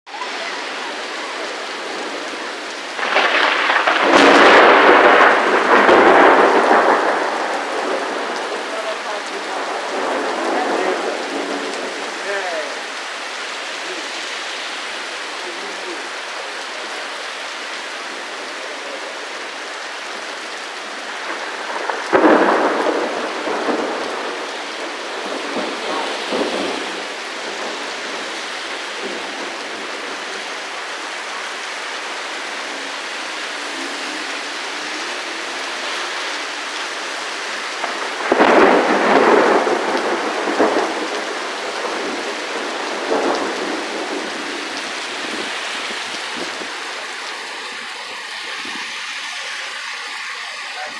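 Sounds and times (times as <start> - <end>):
heavy rain: 0.0 - 50.9
thunder rumbling: 0.1 - 50.9.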